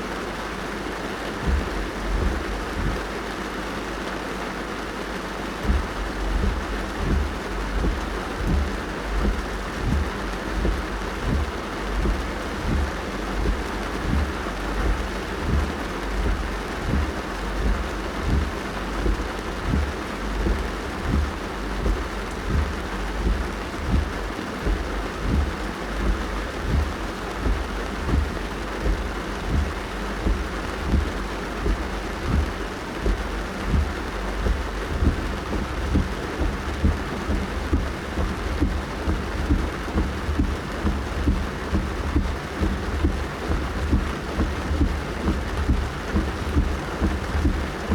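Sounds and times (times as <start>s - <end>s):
rain pattering on car roof: 0.0s - 47.9s
windscreen wipers thumping: 0.0s - 47.9s.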